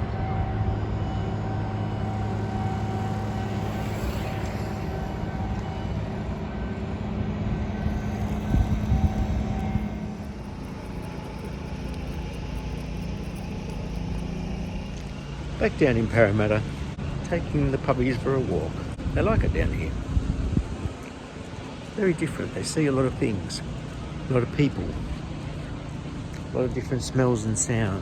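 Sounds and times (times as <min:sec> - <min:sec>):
engine hum: 0:00.0 - 0:28.0.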